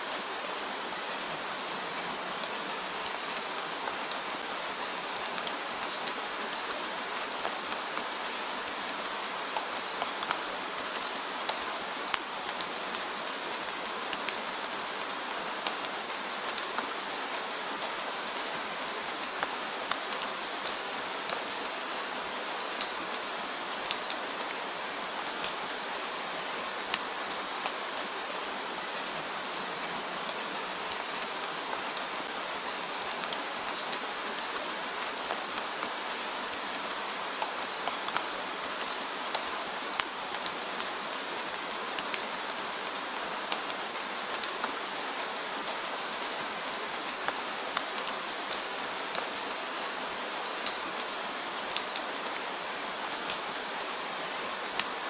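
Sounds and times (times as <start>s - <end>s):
steady rain hiss: 0.0s - 55.0s
raindrops ticking on surface: 0.1s - 55.0s.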